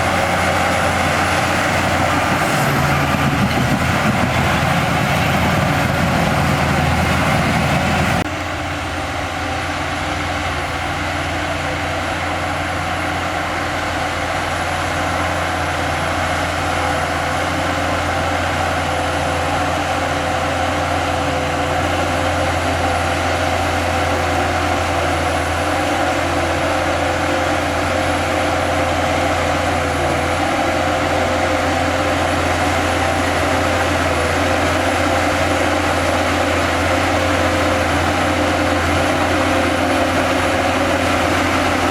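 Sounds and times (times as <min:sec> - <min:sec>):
heavy diesel engine under load: 0:00.0 - 0:41.9.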